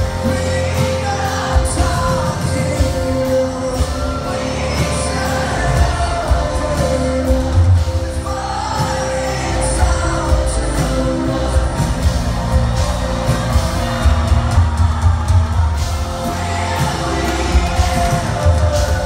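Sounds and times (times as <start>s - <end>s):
lead voice singing: 0.0s - 19.0s
live rock band playing: 0.0s - 19.0s.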